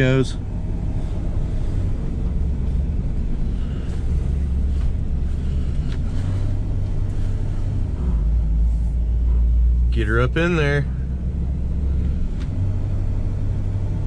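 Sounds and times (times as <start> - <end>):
car engine running at low speed: 0.0 - 14.0.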